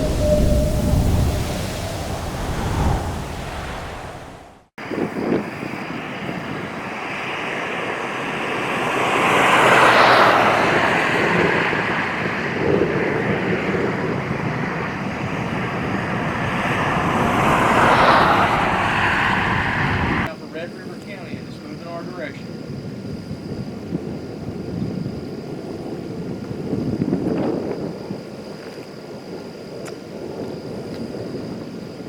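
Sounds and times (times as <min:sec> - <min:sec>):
strong wind gusts: 0:00.0 - 0:20.3, 0:21.3 - 0:32.0.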